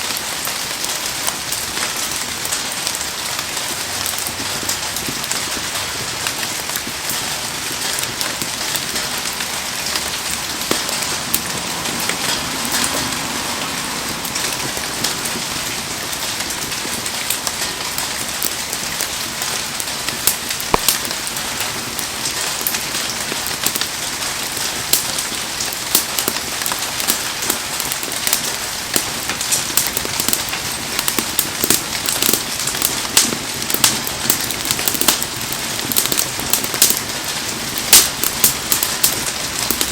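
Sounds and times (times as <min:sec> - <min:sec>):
heavy rain falling: 0:00.0 - 0:39.9
wood fire crackling and popping: 0:00.0 - 0:39.9.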